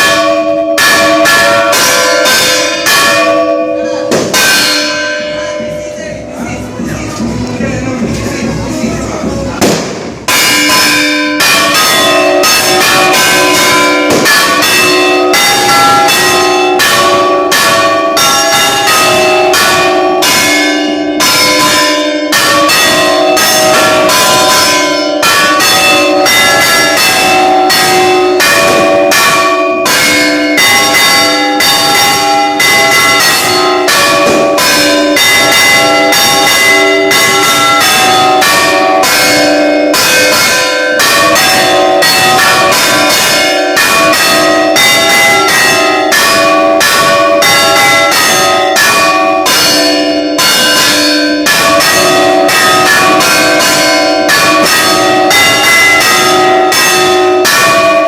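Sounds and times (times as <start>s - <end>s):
church bells ringing a peal: 0.0s - 58.0s.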